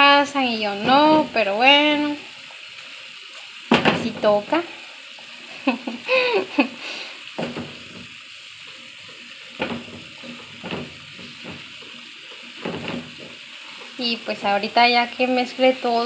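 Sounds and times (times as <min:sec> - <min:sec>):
rice and beans sizzling in a pan: 0:00.0 - 0:16.0.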